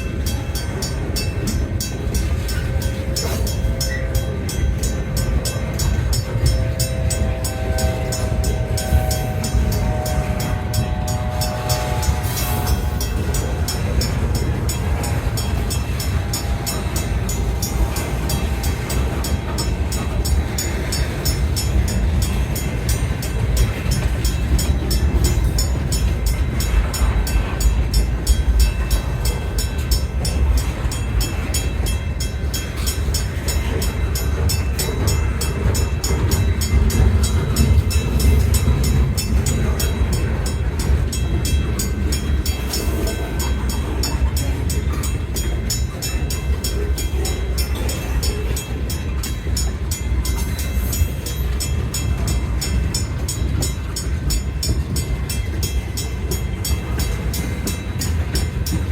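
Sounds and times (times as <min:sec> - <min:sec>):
train rumbling past on rails: 0:00.0 - 0:58.9.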